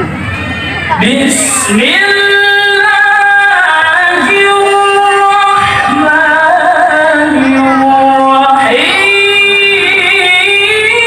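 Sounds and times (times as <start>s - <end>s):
person singing melismatic notes: 0.9s - 11.0s.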